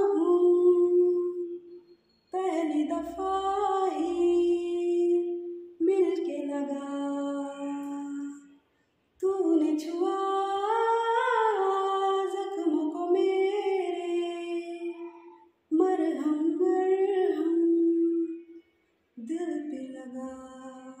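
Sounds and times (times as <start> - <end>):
woman singing unaccompanied: 0.0 - 1.7, 2.4 - 8.6, 9.2 - 18.6, 19.2 - 21.0.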